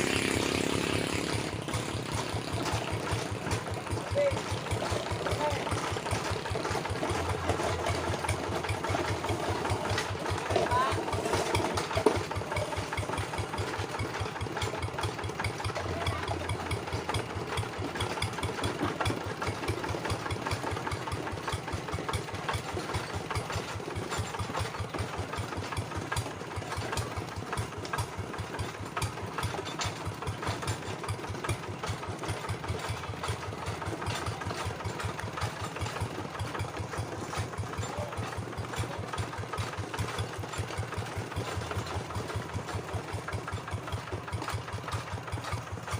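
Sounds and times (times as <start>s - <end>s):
diesel engine chugging: 0.0s - 45.9s
engine knock: 0.0s - 45.9s.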